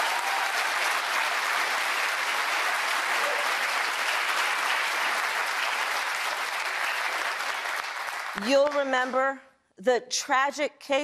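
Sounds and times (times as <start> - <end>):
audience clapping: 0.0 - 9.4.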